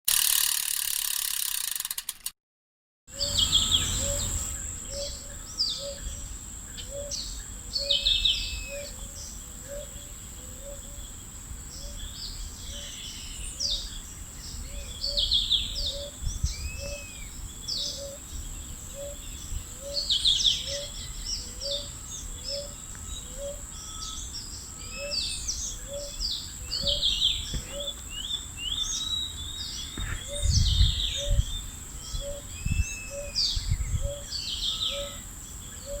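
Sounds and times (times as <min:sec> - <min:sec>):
birds chirping and whistling: 0:03.1 - 0:11.1, 0:11.8 - 0:36.0
continuous high whine: 0:03.1 - 0:36.0.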